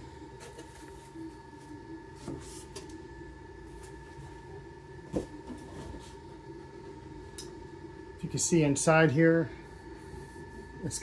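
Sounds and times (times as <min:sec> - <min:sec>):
high-pitched electrical whine: 0:00.0 - 0:11.0
low hum: 0:00.0 - 0:11.0.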